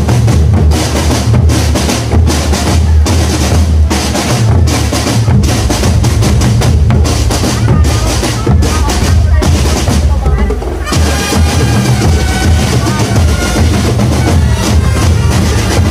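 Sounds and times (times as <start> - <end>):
bass drums: 0.0 - 15.9
snare drums: 0.0 - 15.9.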